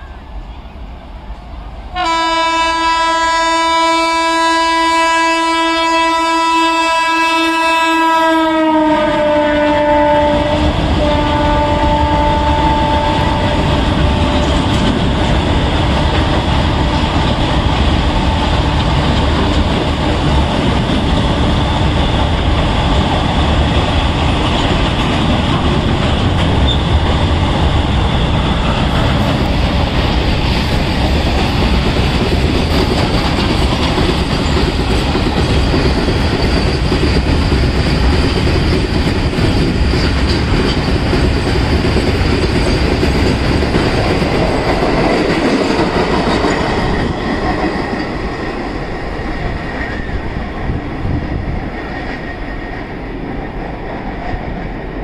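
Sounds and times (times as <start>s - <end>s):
freight train rumbling past: 0.0s - 55.0s
clickety-clack over rail joints: 10.2s - 54.8s.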